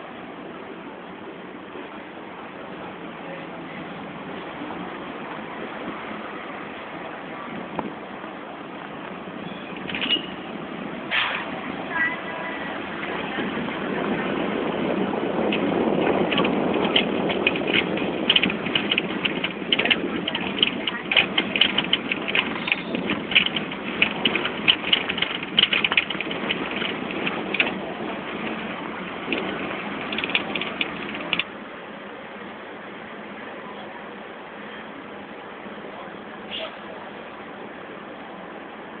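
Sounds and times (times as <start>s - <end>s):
tram rumbling and rattling: 0.0s - 39.0s.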